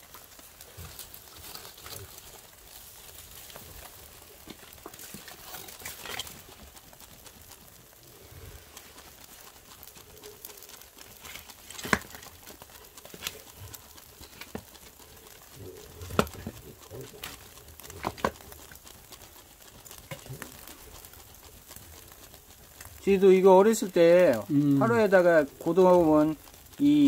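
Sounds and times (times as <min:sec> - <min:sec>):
faint steady hiss: 0:00.0 - 0:27.0
fish fat crackling on fire: 0:00.0 - 0:27.0.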